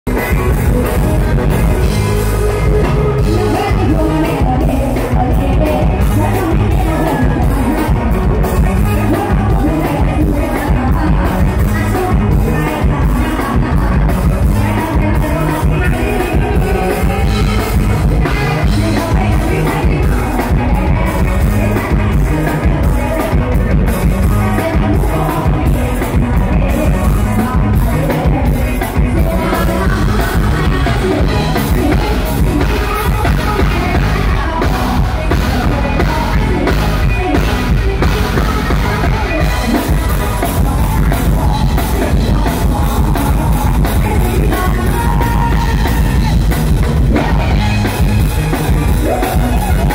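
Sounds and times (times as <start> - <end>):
live band music: 0.1 - 49.9
person singing: 0.1 - 49.9
steady drum beat: 0.1 - 49.9.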